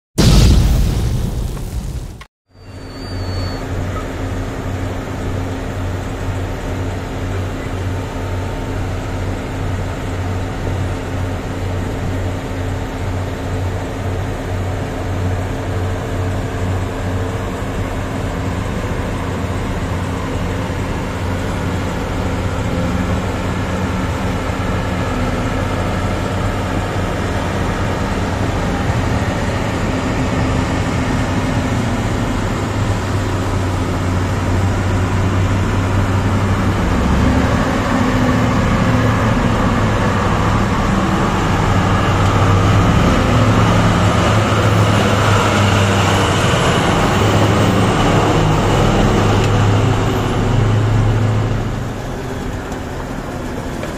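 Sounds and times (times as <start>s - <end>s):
heavy machinery engine drone: 0.2s - 53.9s.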